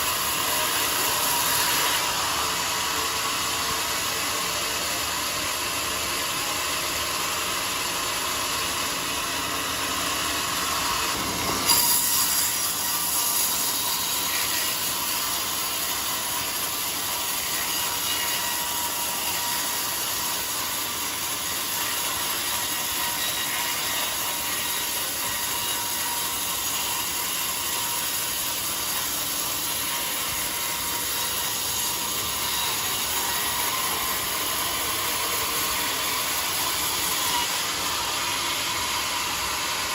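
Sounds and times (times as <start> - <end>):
band saw cutting through log: 0.0 - 39.9.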